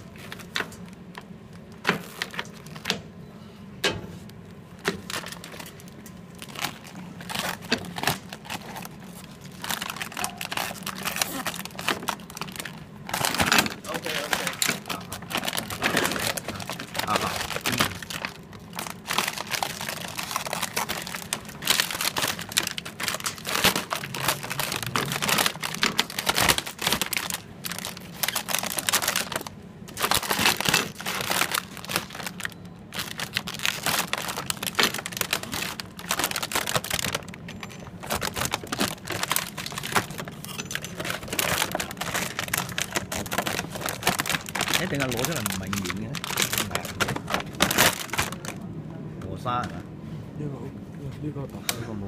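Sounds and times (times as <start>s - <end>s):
transfer paper crinkling and rustling: 0.0s - 3.0s, 4.3s - 48.7s
low steady hum: 0.0s - 52.0s.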